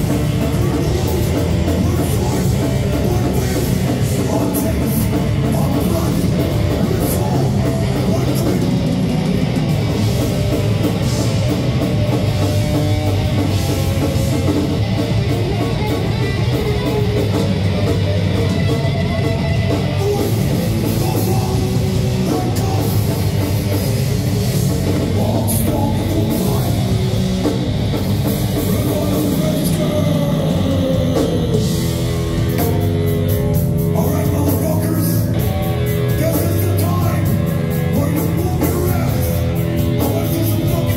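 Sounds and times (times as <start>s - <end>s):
bass guitar: 0.0s - 40.9s
distorted electric guitar: 0.0s - 40.9s
drum kit: 0.0s - 40.9s.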